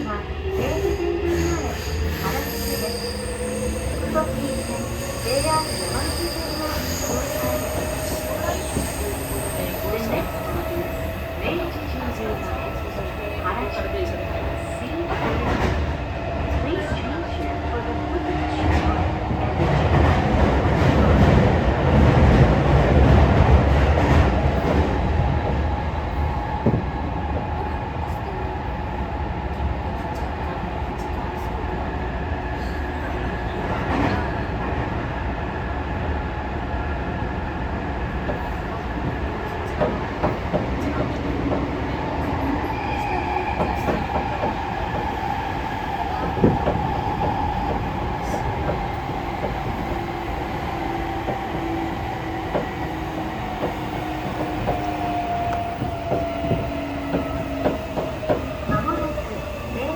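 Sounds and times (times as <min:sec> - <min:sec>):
subway car rumble: 0:00.0 - 0:59.9.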